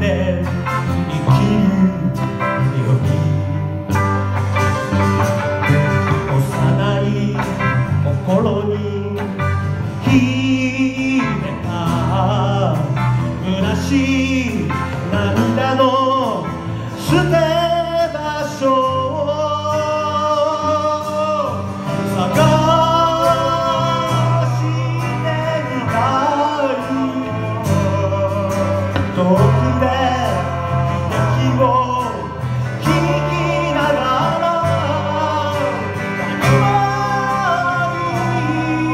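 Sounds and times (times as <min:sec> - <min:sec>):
live pop band playing: 0:00.0 - 0:38.9
man singing: 0:00.0 - 0:38.9.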